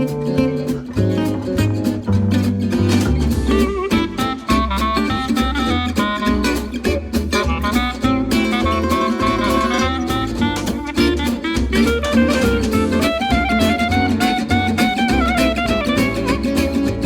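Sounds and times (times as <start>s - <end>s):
upbeat guitar-led instrumental: 0.0s - 17.0s.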